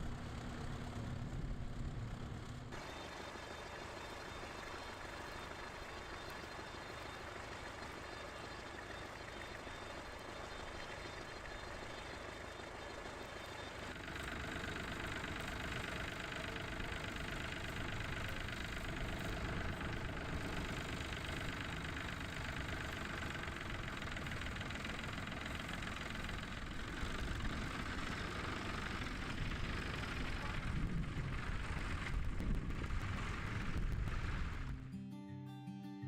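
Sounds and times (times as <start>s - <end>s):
tractor engine knocking: 0.0s - 34.7s.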